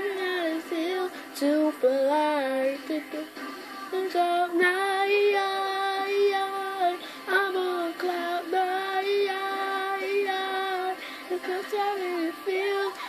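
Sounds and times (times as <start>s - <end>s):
boy singing unaccompanied: 0.0s - 13.0s.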